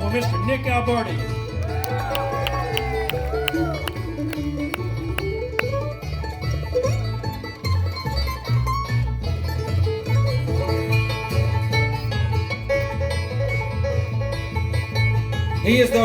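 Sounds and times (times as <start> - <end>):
banjo: 0.0 - 16.0
guitar: 0.0 - 16.0
bass playing low notes: 1.2 - 15.7.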